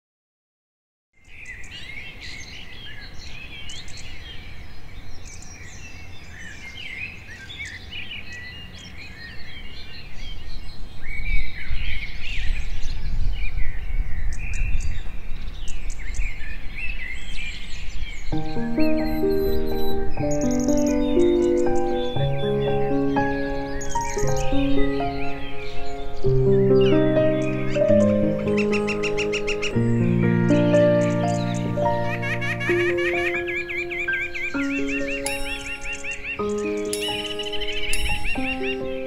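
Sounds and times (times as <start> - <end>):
songbirds chirping and singing: 1.2 - 39.0.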